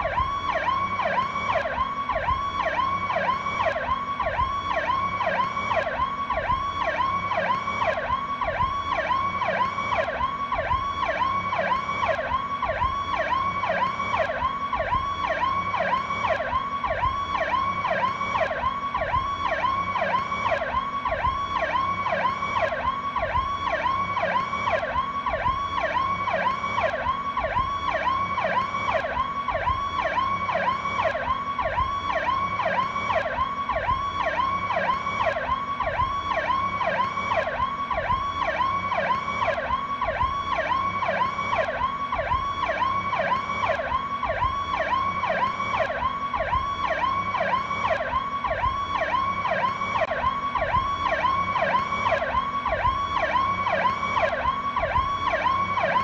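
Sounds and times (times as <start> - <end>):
police siren yelp: 0.0 - 56.0.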